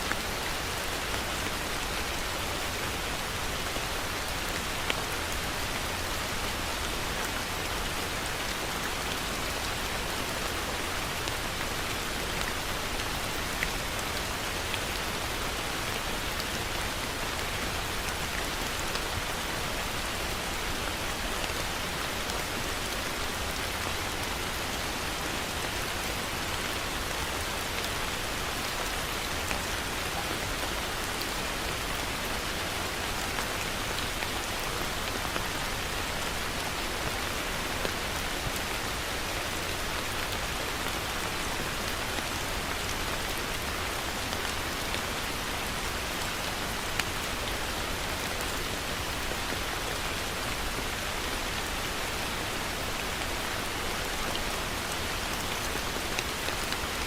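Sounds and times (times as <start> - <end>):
raindrops ticking on surfaces: 0.0 - 57.0.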